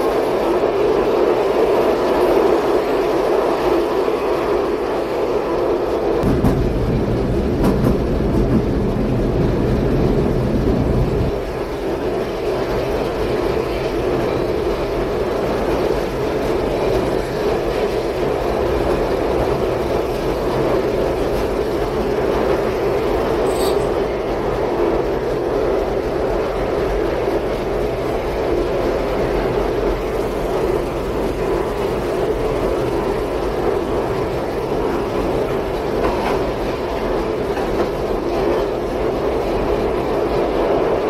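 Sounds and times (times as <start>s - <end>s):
train carriage rumbling and rattling: 0.0s - 41.0s.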